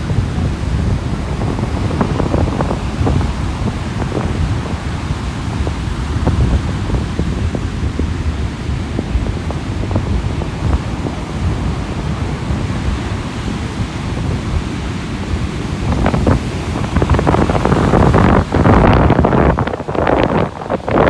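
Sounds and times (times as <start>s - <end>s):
sea surf washing onto beach: 0.0s - 21.0s
wind buffeting microphone: 0.0s - 21.0s.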